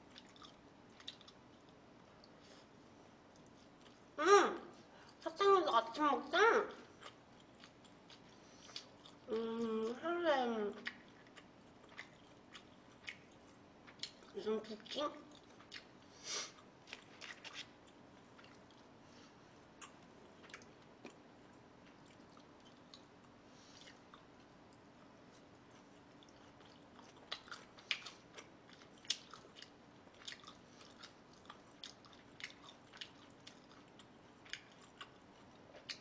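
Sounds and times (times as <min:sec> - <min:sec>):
person chewing: 0:00.0 - 0:02.7, 0:03.3 - 0:04.1, 0:06.9 - 0:10.0, 0:10.8 - 0:14.4, 0:15.3 - 0:18.9, 0:19.8 - 0:36.0.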